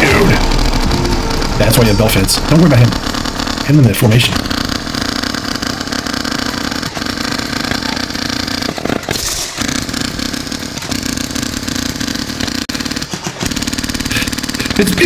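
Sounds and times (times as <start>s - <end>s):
steady mechanical buzz: 0.0s - 15.0s.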